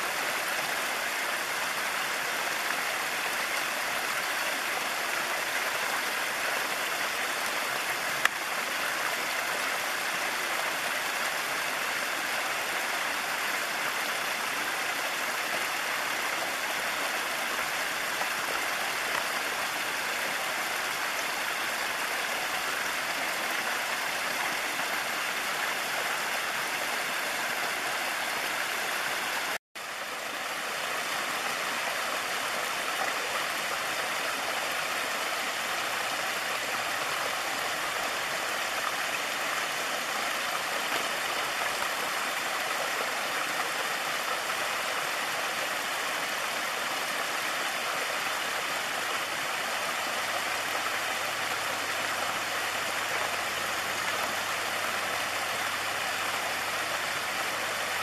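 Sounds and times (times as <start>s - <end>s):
stream water rushing and splashing: 0.0s - 58.0s.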